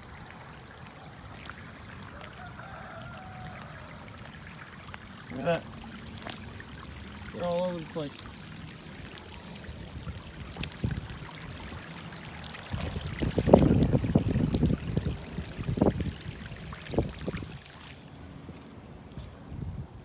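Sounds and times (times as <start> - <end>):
water running over gravel: 0.0 - 18.2.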